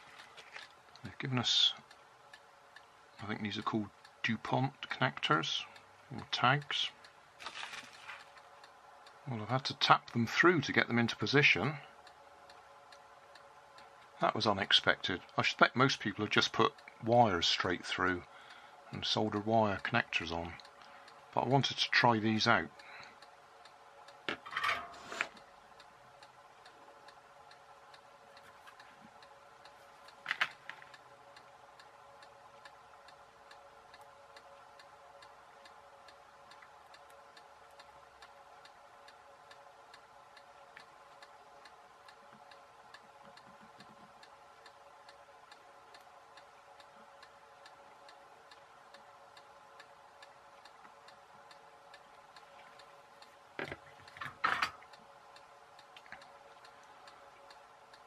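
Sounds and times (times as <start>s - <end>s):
faint steady ticking: 0.0s - 58.0s
low steady hum: 0.0s - 58.0s.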